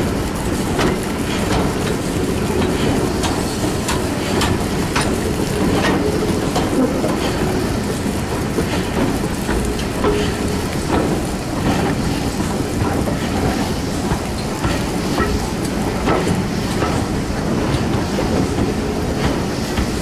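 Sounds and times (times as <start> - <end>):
wheels rumbling on track: 0.0 - 20.0
sharp rail clicks: 0.3 - 20.0.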